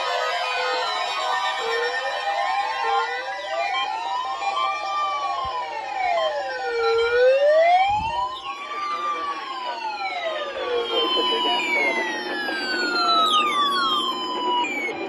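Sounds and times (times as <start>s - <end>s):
fainter siren sweeps and tones: 0.0s - 15.0s
wailing siren: 0.0s - 15.0s.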